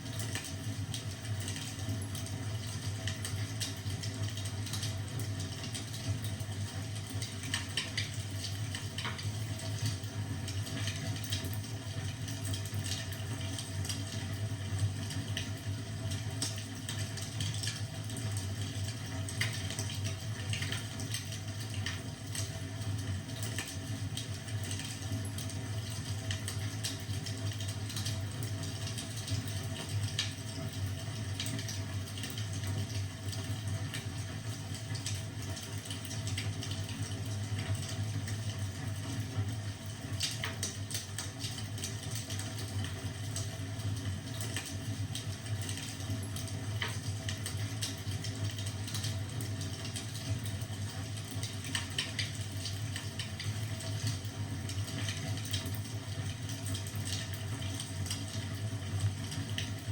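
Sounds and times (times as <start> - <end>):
wood fire crackling: 0.1 - 59.9.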